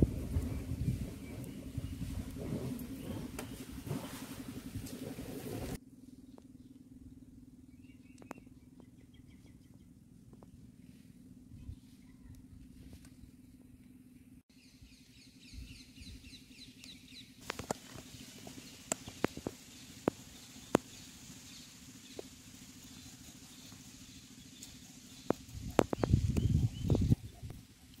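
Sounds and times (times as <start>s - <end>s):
small birds chirping: 0.0s - 5.0s, 6.1s - 28.0s
steady low hum: 0.0s - 28.0s.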